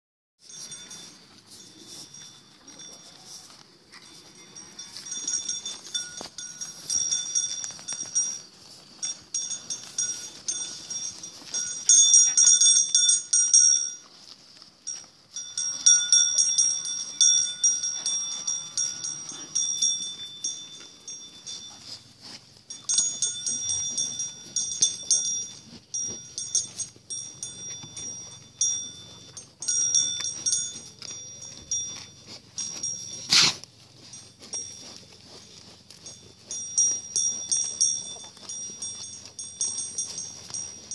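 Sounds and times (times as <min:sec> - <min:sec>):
grass being cropped: 0:00.4 - 0:40.9
small metal bell clinking: 0:00.4 - 0:40.9.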